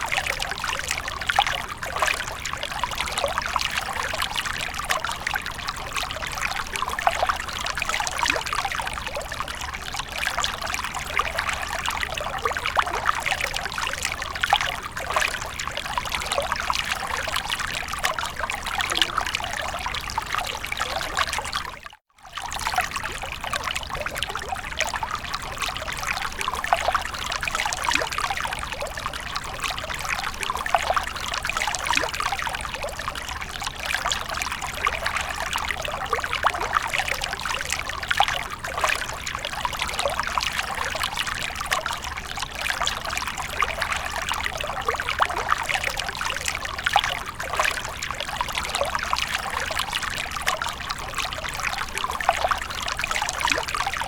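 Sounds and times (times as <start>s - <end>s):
fountain water splashing and trickling: 0.0s - 54.0s.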